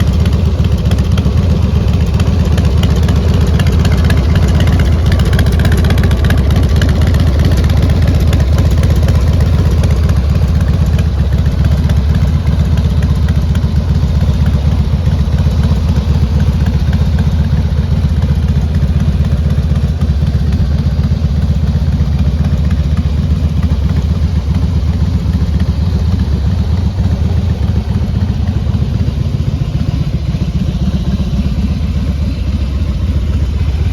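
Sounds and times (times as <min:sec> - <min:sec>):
motorcycle idling: 0:00.0 - 0:33.9.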